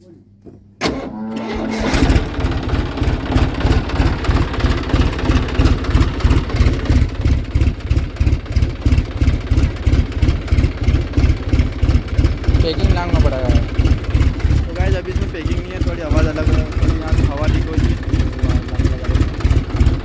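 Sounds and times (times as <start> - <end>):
starter motor whine: 0.8 - 7.8, 10.1 - 20.0
diesel engine idling: 0.8 - 20.0.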